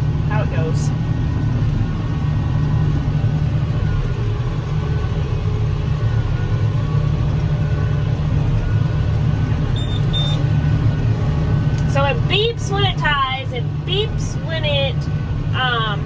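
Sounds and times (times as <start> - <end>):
tractor diesel engine drone: 0.0 - 16.0.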